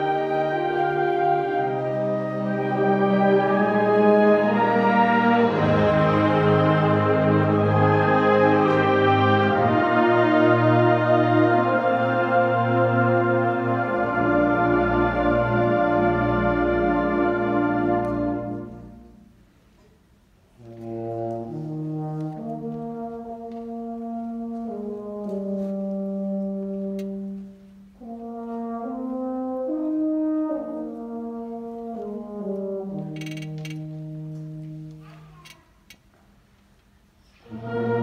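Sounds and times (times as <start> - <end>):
concert band playing slow piece: 0.0 - 35.4, 37.2 - 38.0.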